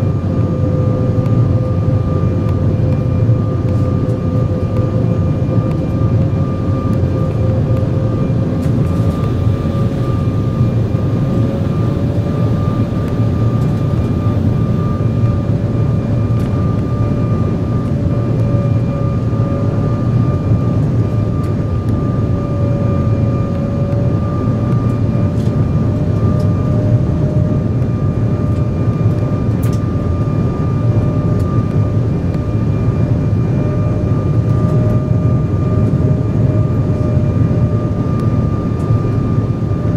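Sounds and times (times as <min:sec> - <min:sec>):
airliner cabin airflow and engine rumble: 0:00.0 - 0:39.9
thin steady whine: 0:00.0 - 0:39.9.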